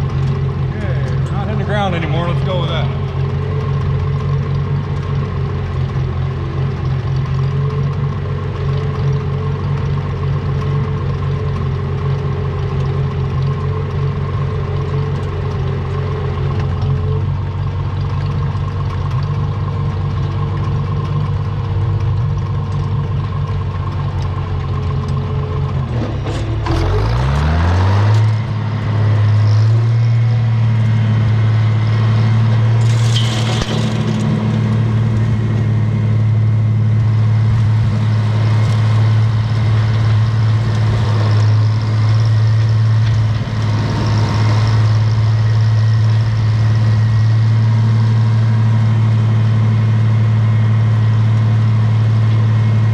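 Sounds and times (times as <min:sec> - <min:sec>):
tractor engine revving: 0:00.0 - 0:52.9.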